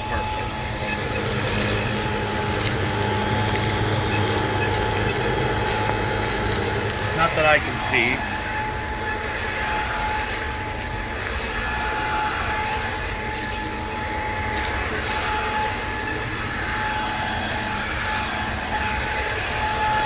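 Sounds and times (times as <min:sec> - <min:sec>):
stick vacuum running on carpet: 0:00.0 - 0:20.0.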